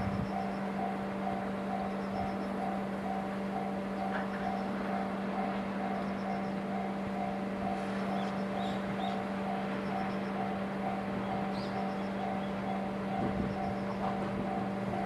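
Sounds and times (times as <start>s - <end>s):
level-crossing alarm bell: 0.1s - 15.0s.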